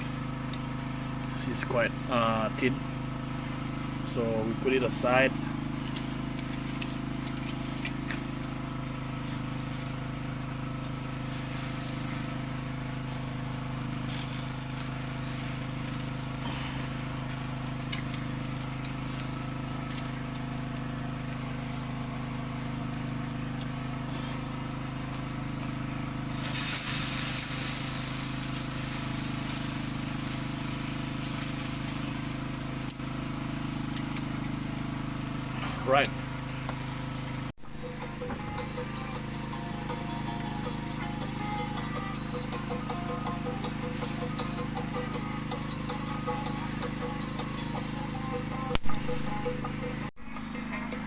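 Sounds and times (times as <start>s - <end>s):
small engine droning: 0.0s - 51.0s.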